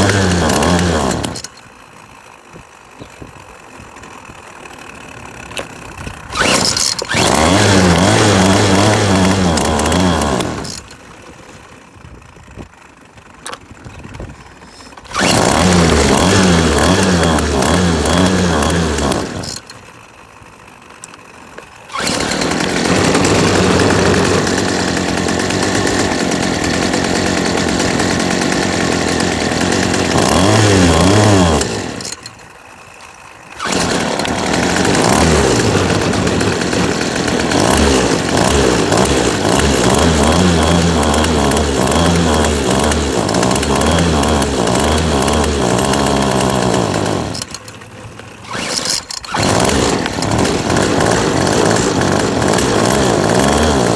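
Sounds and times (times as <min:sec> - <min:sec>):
string trimmer engine revving: 0:00.0 - 0:01.7, 0:04.6 - 0:11.1, 0:14.6 - 0:19.8, 0:21.8 - 0:53.9.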